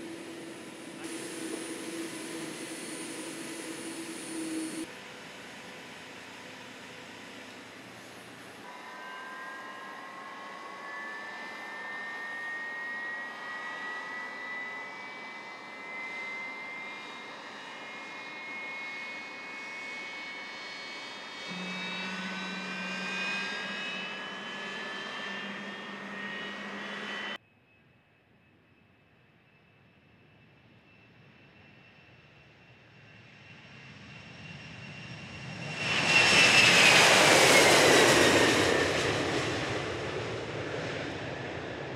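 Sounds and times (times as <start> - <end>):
jet engines spooling up: 0.0 - 27.4, 30.8 - 41.9.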